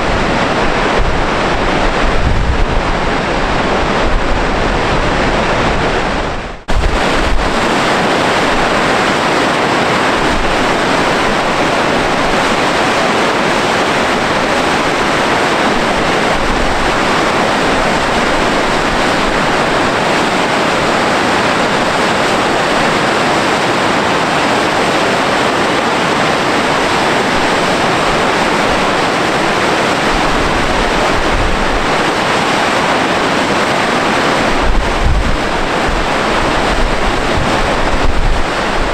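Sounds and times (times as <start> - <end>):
waterfall rushing: 0.0 - 38.9
wind gusting on microphone: 0.0 - 38.9.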